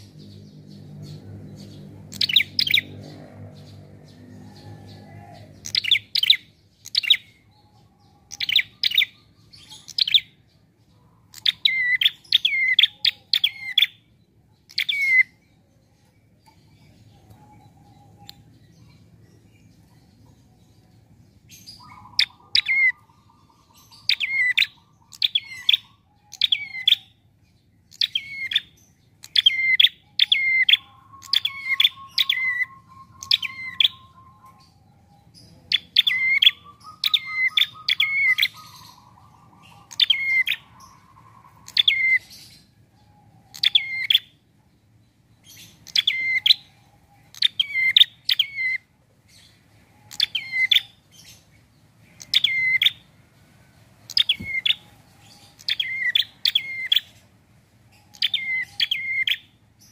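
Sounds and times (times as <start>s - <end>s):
warbler calling sharp notes: 0.0s - 10.5s, 11.2s - 15.7s, 20.7s - 27.2s, 27.8s - 44.4s, 45.4s - 53.2s, 54.0s - 57.3s, 57.9s - 59.9s.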